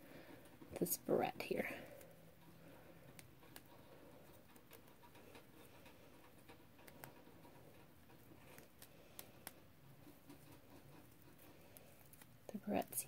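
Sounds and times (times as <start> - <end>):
small clicks and rustles: 0.1 - 13.0.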